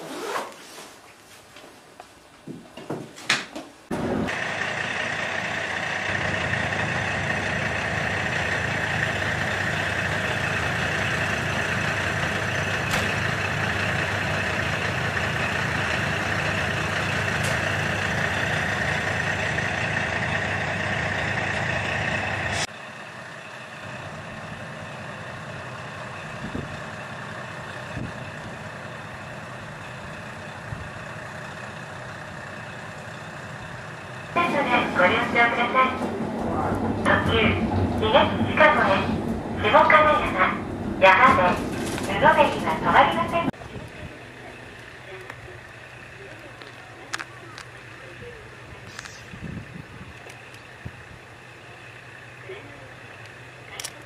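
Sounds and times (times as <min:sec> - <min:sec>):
diesel railcar engine idling: 0:03.9 - 0:54.0.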